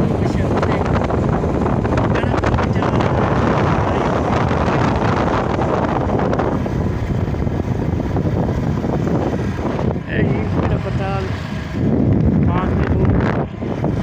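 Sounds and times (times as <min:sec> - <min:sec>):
engine and road rumble: 0:00.0 - 0:14.0
wind buffeting microphone: 0:00.0 - 0:14.0.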